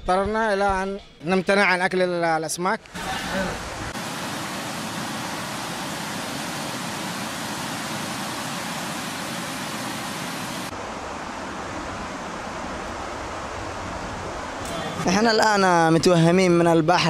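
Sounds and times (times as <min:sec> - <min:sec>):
rushing outdoor noise: 0:02.8 - 0:17.0.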